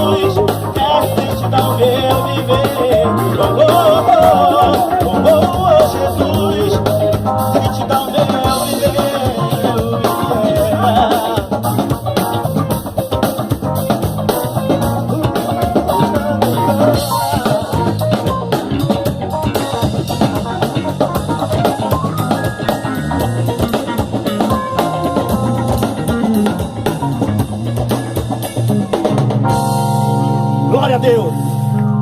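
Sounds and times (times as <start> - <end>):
drum kit beat: 0.0 - 32.0
live pop-rock band playing: 0.0 - 32.0.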